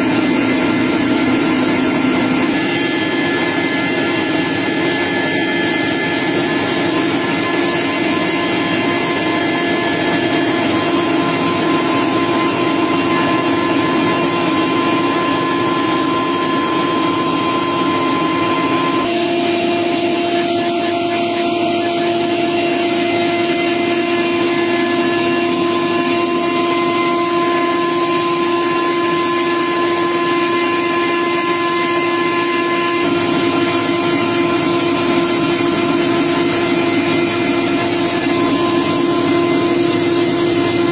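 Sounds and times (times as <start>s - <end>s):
electric motor hum: 0.0s - 40.9s
factory machinery whirring: 0.0s - 40.9s.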